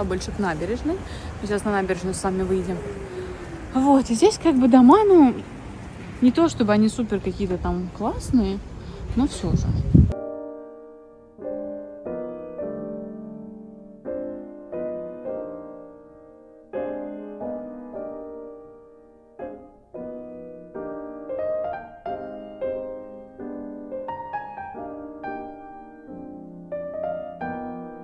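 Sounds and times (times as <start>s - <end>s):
gentle piano: 0.0s - 28.0s.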